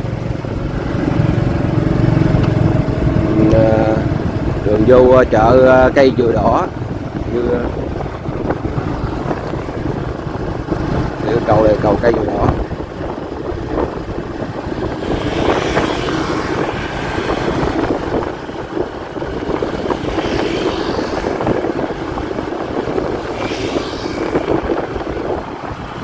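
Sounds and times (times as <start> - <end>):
motorbike engine: 0.0 - 26.0
wind buffeting microphone: 0.0 - 26.0.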